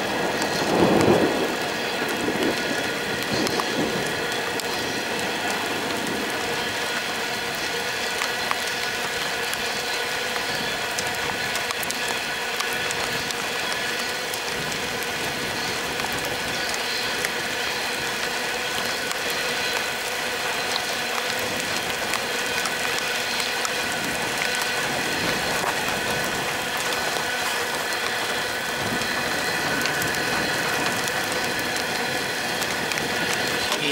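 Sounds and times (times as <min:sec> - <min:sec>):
wheels squealing: 0:00.0 - 0:33.9.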